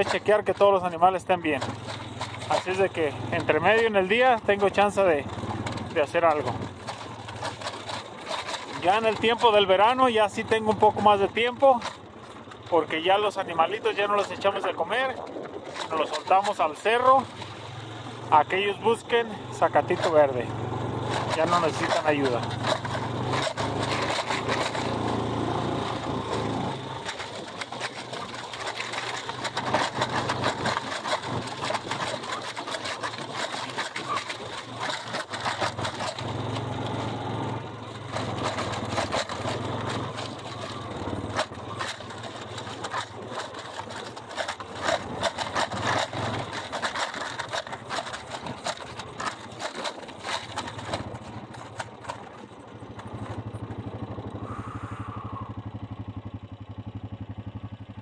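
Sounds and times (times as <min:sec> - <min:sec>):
rattles and knocks: 0:00.0 - 0:53.9
vehicle engine running: 0:00.0 - 0:58.0.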